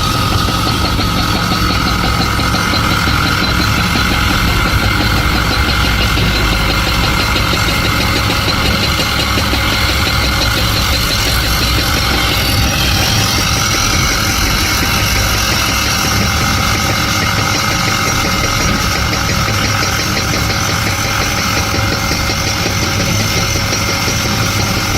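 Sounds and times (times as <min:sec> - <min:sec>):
high whine: 0:00.0 - 0:24.9
large diesel engine running: 0:00.0 - 0:24.9.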